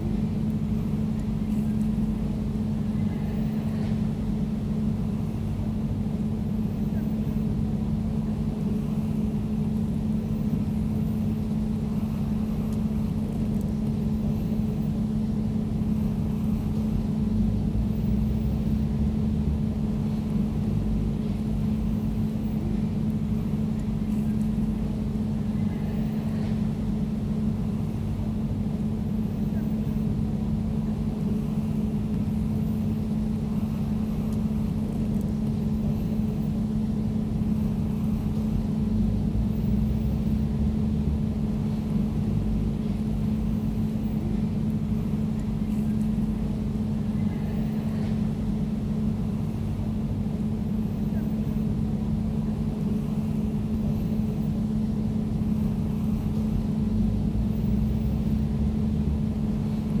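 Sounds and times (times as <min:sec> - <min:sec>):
air conditioner humming: 0:00.0 - 1:00.0.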